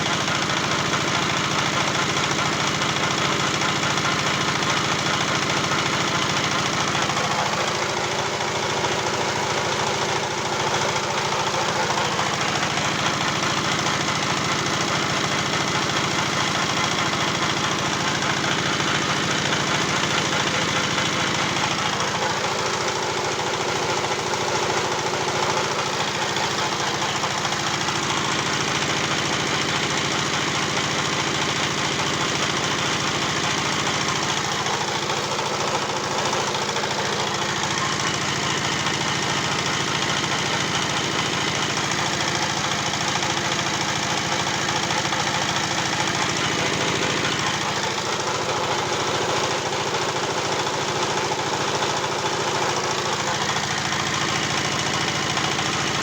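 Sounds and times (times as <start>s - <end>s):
pellet machine droning: 0.0s - 56.0s.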